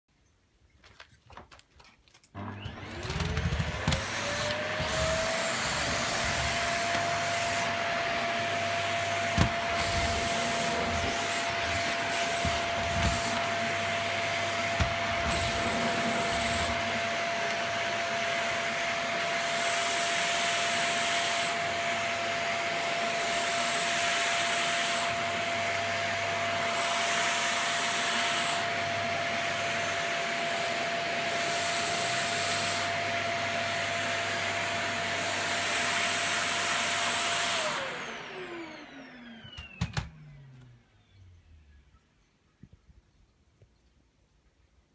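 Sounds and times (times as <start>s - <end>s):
vacuum cleaner motor whine: 2.4s - 42.1s.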